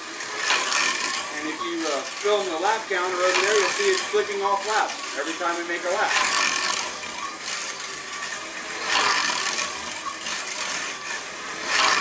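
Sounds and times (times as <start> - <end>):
slot car motor whirring: 0.0 - 12.0.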